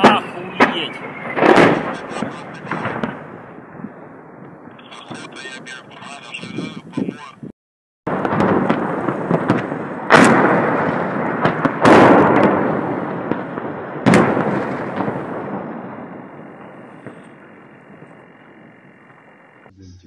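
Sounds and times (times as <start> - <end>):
smaller sharp bangs: 0.0 - 7.2, 8.1 - 19.7
heavy explosion blasts: 0.0 - 7.5, 8.1 - 19.0.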